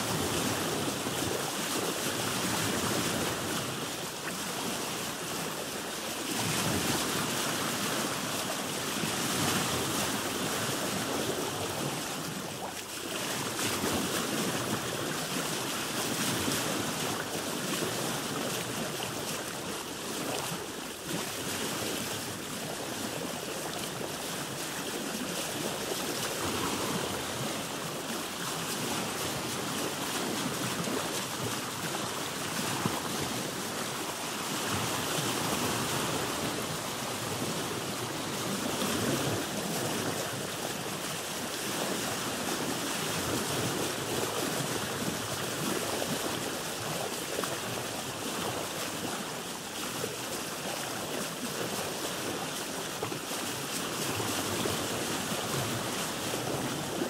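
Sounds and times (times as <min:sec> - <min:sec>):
waves washing around a boat: 0:00.0 - 0:57.0.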